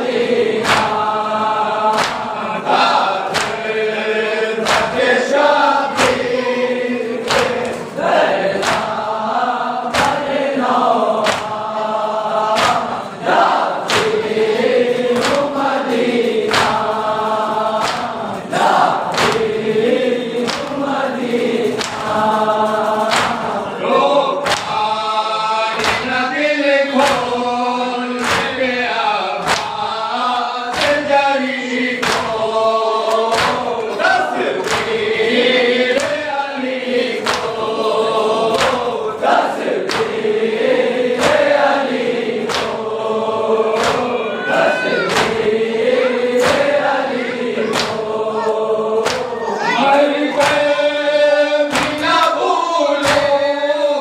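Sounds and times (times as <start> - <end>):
men chanting in unison: 0.0 - 54.0
hands slapping chests: 0.1 - 6.4, 7.2 - 22.3, 23.0 - 23.6, 24.4 - 25.1, 25.7 - 26.2, 27.0 - 27.5, 28.2 - 30.0, 30.7 - 31.3, 31.9 - 42.9, 43.7 - 50.8, 51.7 - 52.4, 53.0 - 53.4.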